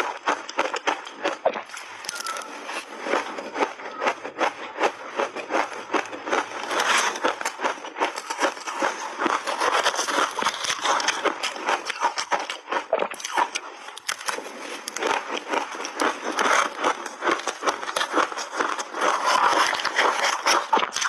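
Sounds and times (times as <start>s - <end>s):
ice crunching while chewed: 0.0s - 21.0s.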